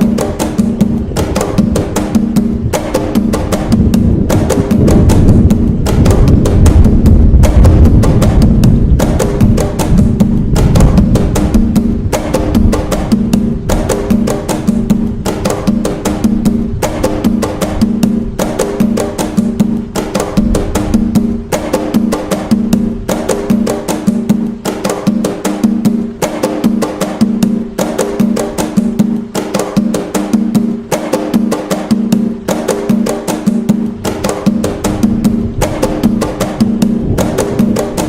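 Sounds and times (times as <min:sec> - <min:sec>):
hand drums playing rhythm: 0:00.0 - 0:38.0.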